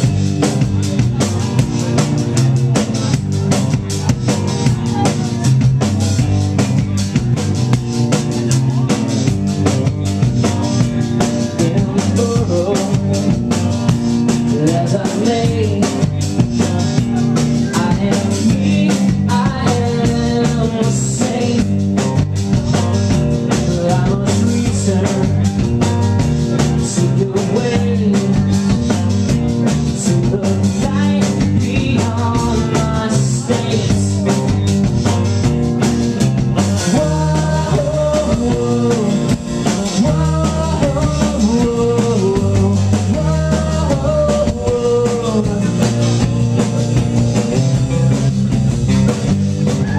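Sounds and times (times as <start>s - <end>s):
drum kit beat: 0.0s - 49.9s
rock band playing live: 0.0s - 49.9s.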